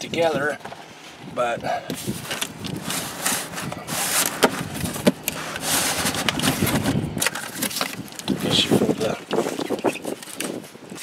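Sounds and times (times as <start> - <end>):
cardboard packaging rustling: 2.0 - 11.0.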